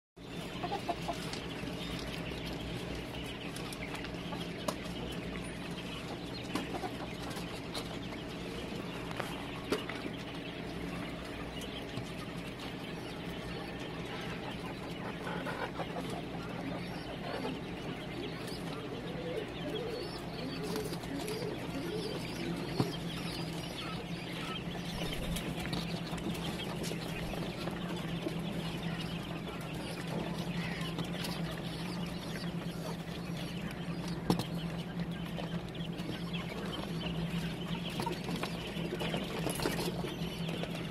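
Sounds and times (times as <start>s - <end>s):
quail chicks chirping: 0.2s - 40.9s
steady low hum: 0.2s - 40.9s.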